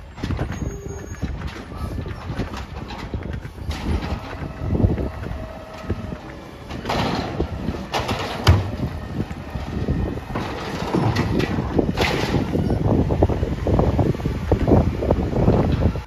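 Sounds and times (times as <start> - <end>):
cart banging: 0.0 - 13.3
trash rattling down: 0.0 - 13.7
garbage truck running: 0.0 - 16.0.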